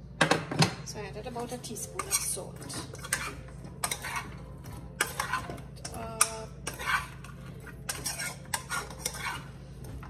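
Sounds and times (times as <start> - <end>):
metal spoon scraping a pot: 1.5 - 10.0.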